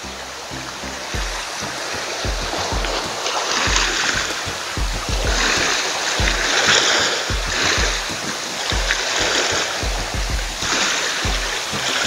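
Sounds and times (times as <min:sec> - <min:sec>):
low rumbles: 0:00.0 - 0:12.0
waves splashing against rocks: 0:00.4 - 0:12.0.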